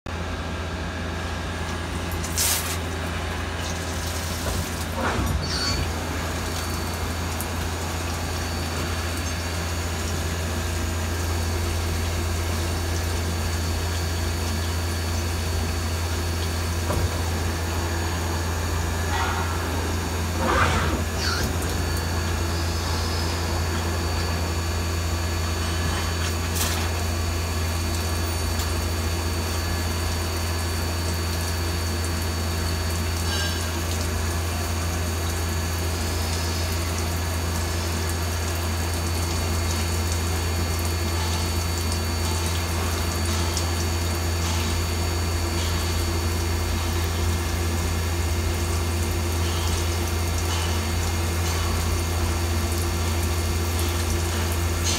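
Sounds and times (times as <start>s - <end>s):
low machine hum: 0.1s - 54.9s
coolant spraying and splashing: 1.8s - 54.9s.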